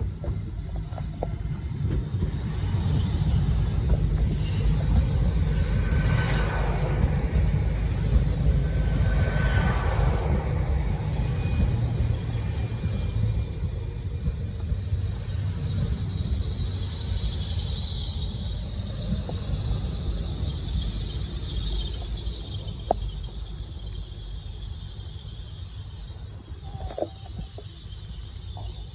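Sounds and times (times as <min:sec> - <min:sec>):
steady high whine: 0:00.0 - 0:28.9
train rumbling: 0:00.0 - 0:28.9.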